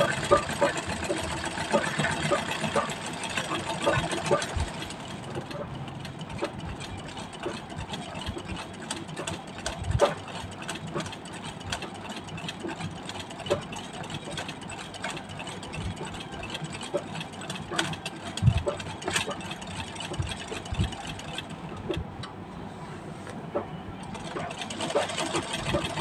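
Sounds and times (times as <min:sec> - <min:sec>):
sewing machine needle clattering: 0:00.0 - 0:22.0, 0:24.0 - 0:26.0.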